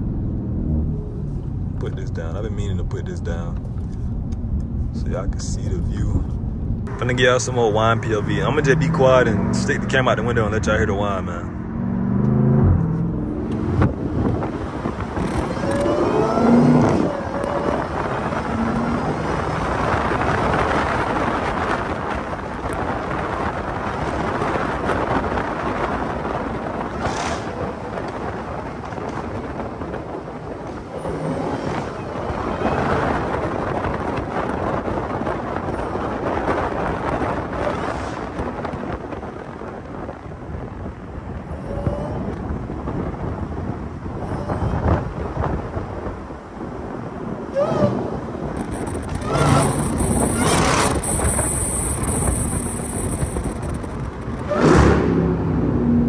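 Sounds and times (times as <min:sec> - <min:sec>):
supercharger whining: 0:00.0 - 0:39.0, 0:47.6 - 0:56.0
car engine accelerating: 0:00.0 - 0:44.0, 0:47.5 - 0:56.0
wind and road noise: 0:00.0 - 0:56.0.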